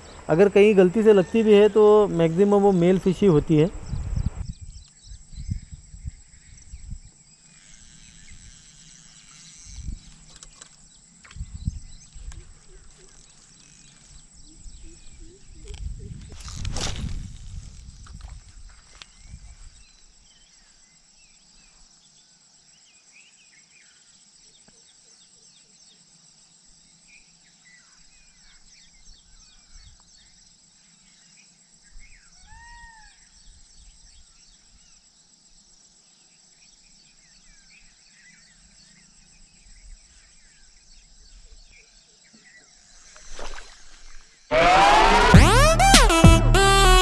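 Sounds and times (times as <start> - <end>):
insects trilling: 0.0 - 24.5, 25.4 - 44.5.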